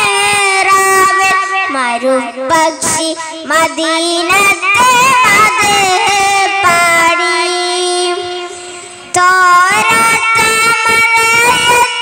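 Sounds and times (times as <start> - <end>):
boy singing into microphone: 0.0 - 12.0.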